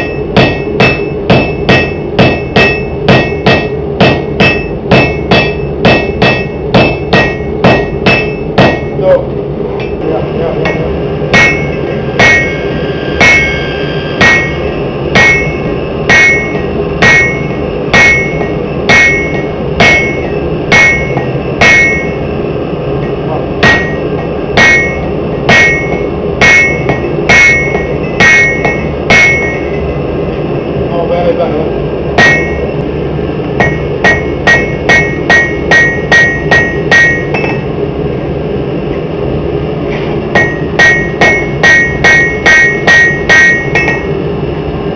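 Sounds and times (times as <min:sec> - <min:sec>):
hammer striking steel on anvil: 0:00.0 - 0:09.2, 0:09.8 - 0:22.2, 0:23.0 - 0:29.9, 0:32.2 - 0:32.7, 0:33.6 - 0:37.7, 0:39.9 - 0:44.2
steady background noise: 0:00.0 - 0:44.9.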